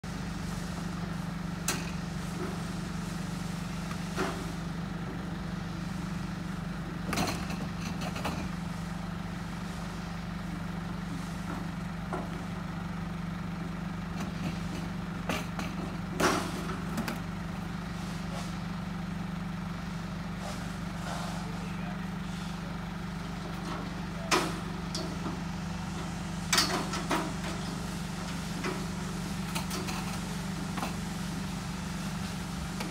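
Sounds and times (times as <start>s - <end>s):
forklift engine idling: 0.0s - 32.9s.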